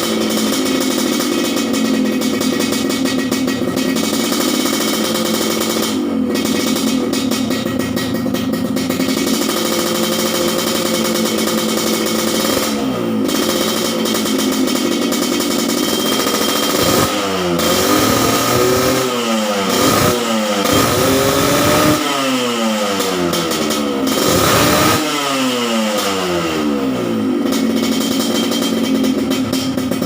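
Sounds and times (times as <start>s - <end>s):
two-stroke motorcycle engine revving: 0.0s - 30.0s.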